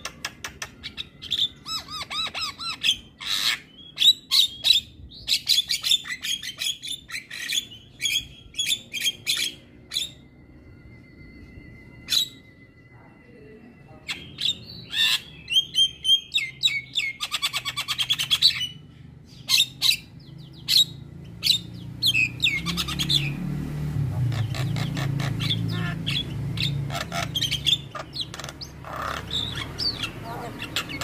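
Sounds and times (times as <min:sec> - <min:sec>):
bird chirping and squawking: 0:00.0 - 0:10.4, 0:12.0 - 0:12.6, 0:14.0 - 0:31.0.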